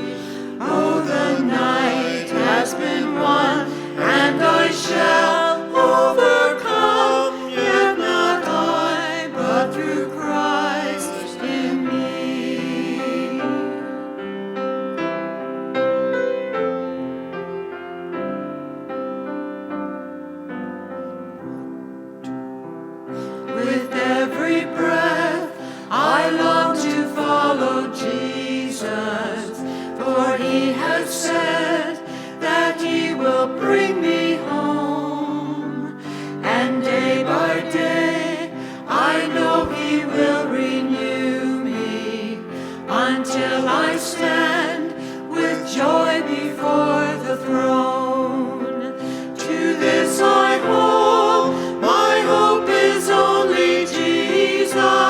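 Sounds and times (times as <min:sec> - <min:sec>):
choir singing a hymn: 0:00.0 - 0:15.2, 0:23.1 - 0:55.0.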